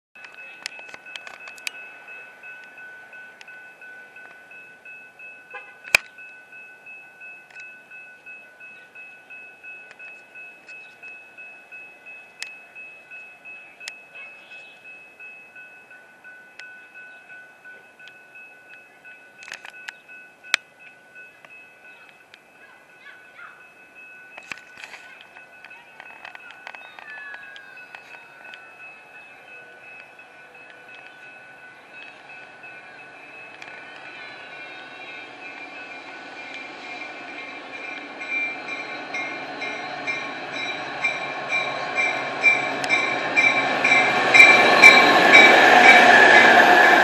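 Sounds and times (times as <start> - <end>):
crossing bell ringing: 0.2 - 47.0.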